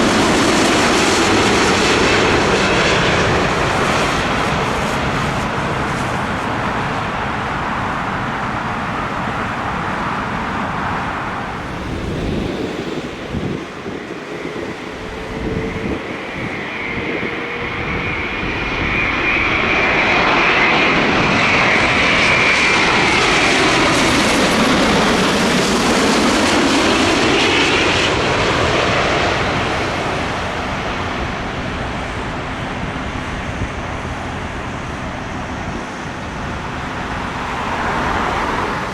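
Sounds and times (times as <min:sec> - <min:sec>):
jet airliner passing: 0:00.0 - 0:38.9.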